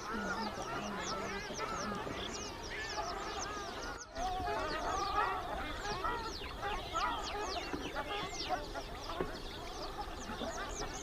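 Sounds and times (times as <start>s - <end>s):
waterfowl chorus calling: 0.0s - 11.0s.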